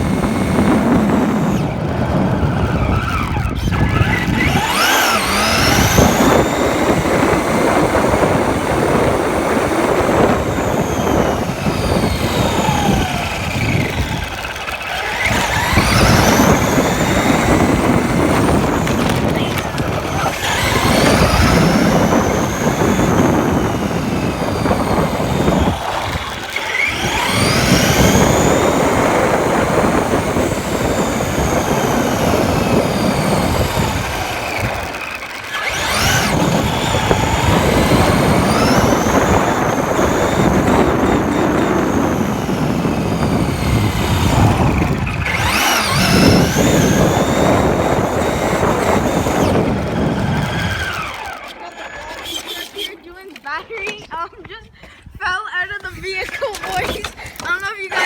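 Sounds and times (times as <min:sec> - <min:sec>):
electric motor whining: 0:00.0 - 0:54.0, 0:56.6 - 0:58.0
toy truck rumbling and rattling: 0:00.0 - 0:54.6, 0:55.7 - 0:58.0.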